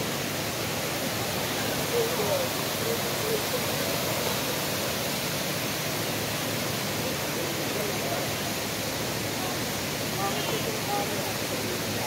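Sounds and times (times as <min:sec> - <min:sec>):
water flowing over rocks: 0:00.0 - 0:12.0.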